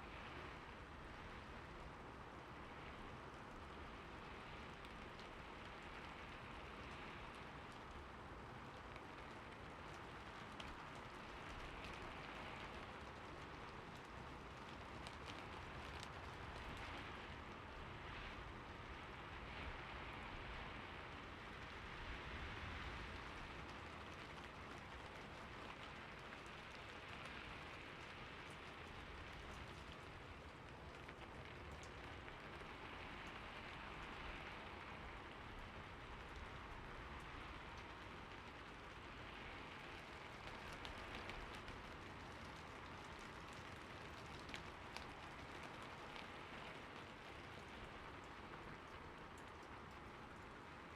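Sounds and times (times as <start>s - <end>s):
rain falling: 0.0s - 50.9s
raindrops ticking on surfaces: 0.0s - 50.9s.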